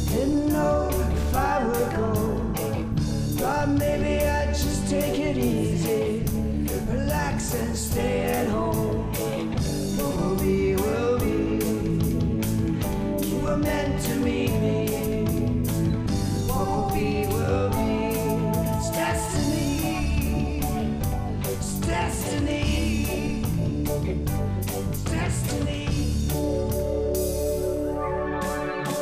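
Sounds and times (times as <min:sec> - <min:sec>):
steady drum beat: 0:00.0 - 0:27.8
person singing: 0:00.0 - 0:29.0
rock band music: 0:00.0 - 0:29.0.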